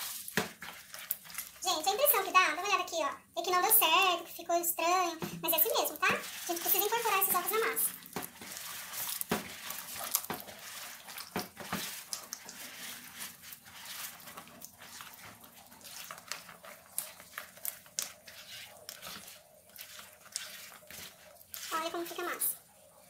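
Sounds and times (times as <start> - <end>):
hand squishing wet dough: 0.0 - 23.0.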